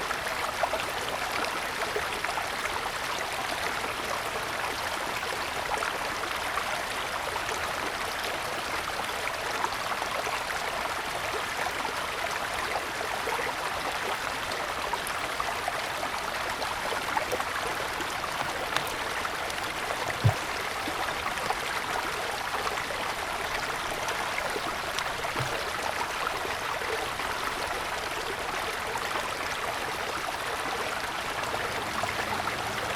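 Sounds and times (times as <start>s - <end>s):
stream babbling over stones: 0.0s - 32.9s.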